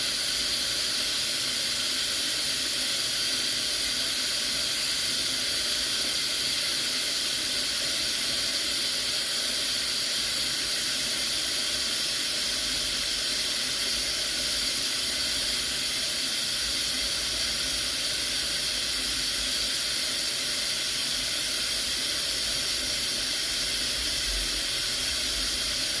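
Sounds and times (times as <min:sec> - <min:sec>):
steam hissing from pressure cooker: 0:00.0 - 0:26.0.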